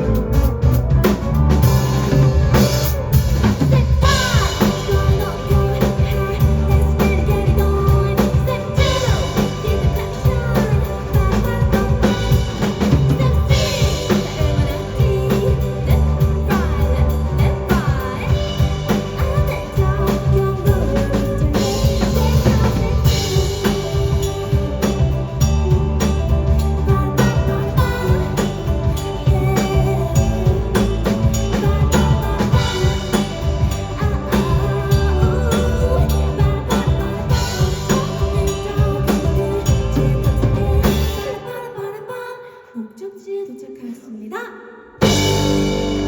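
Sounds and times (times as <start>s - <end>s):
live band playing: 0.0s - 41.6s, 45.0s - 46.0s.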